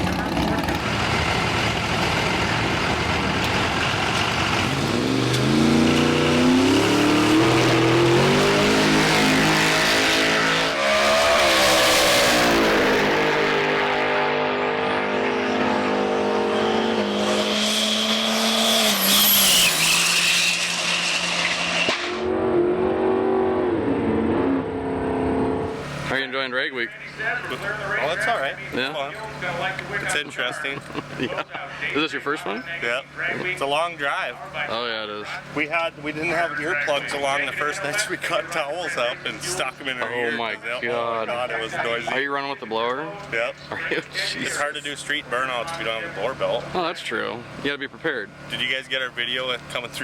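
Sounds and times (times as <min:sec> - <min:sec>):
drag car engine revving: 0:00.0 - 0:50.0.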